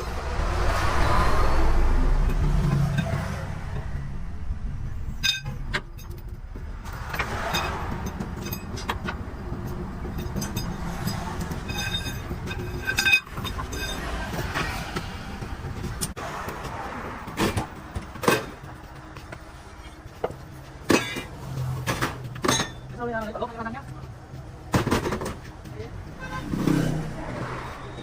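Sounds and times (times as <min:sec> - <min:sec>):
engine and traffic rumble: 0:00.0 - 0:28.0.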